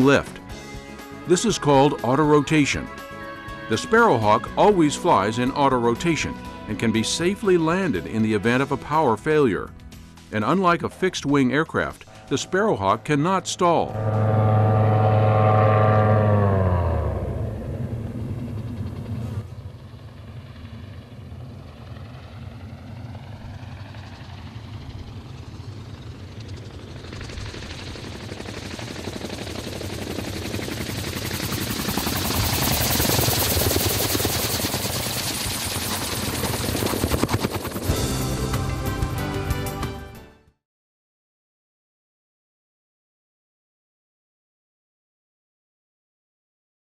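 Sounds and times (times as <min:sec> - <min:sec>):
aircraft engine drone: 0:00.0 - 0:40.0.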